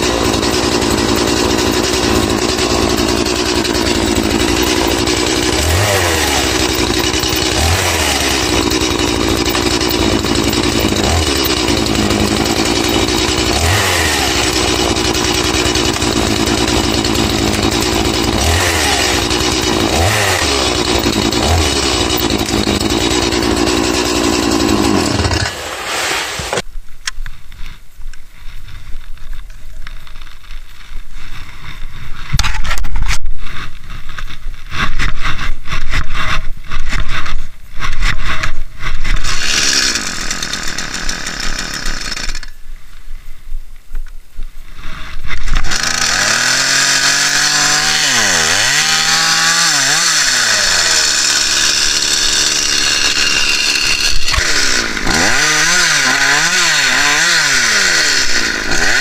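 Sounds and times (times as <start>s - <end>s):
chainsaw cutting wood: 0.0s - 26.7s, 34.1s - 42.6s, 44.9s - 59.0s.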